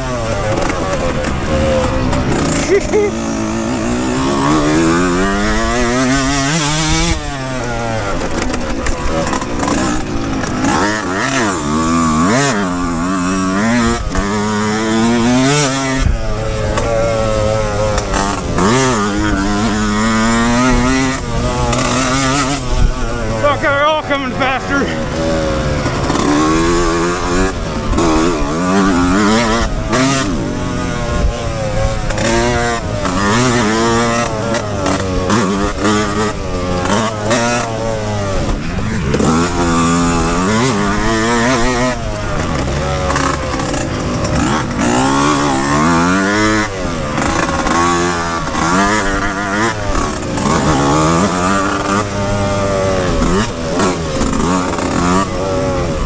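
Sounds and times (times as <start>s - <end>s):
two-stroke motorcycle engine revving: 0.0s - 56.0s.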